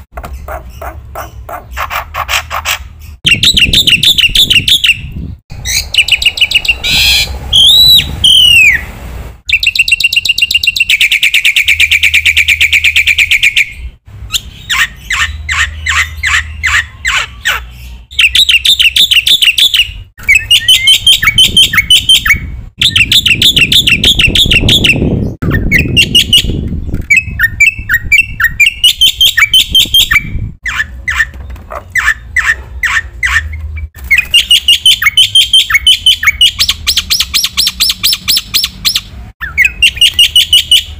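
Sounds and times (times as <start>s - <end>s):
bird singing varied song: 0.0s - 40.9s.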